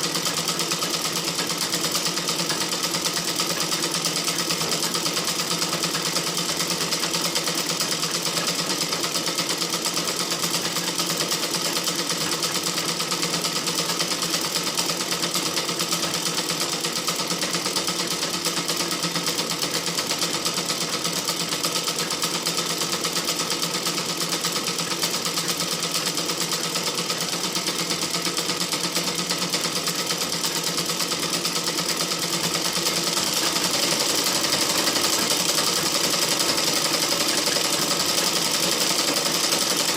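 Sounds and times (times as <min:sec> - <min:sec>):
sewing machine running: 0:00.0 - 0:39.9.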